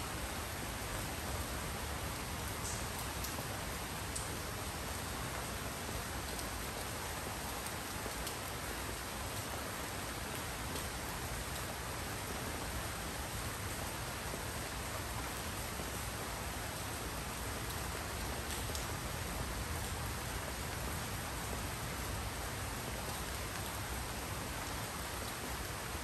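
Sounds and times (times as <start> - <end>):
steady rain hiss: 0.0 - 26.0.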